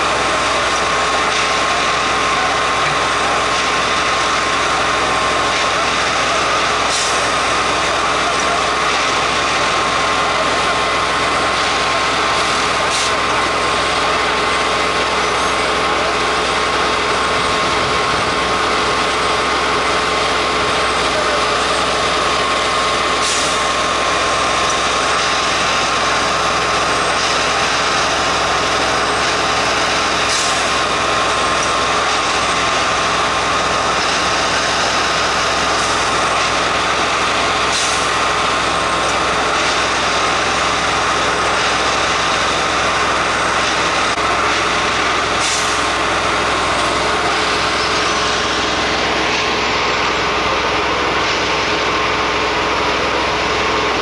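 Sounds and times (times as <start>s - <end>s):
constant machine whine: 0.0s - 54.0s
diesel engine running: 0.0s - 54.0s.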